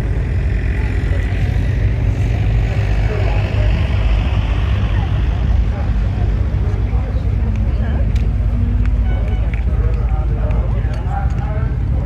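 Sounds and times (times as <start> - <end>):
rally car engine running: 0.0 - 12.0.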